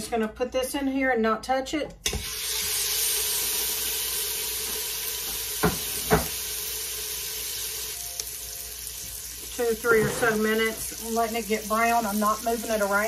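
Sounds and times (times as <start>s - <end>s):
meat sizzling in hot oil: 2.1s - 13.0s.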